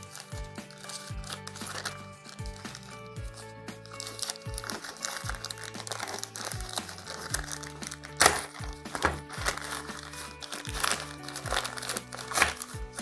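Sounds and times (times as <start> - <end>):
background music with beat: 0.0 - 13.0
plastic packet crinkling: 0.0 - 13.0.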